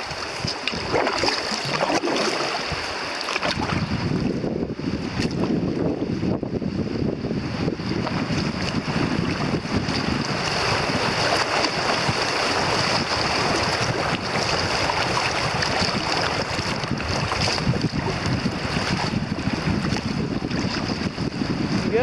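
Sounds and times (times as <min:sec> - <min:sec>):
river water rushing: 0:00.0 - 0:05.4, 0:07.2 - 0:22.0
wind buffeting microphone: 0:00.0 - 0:22.0.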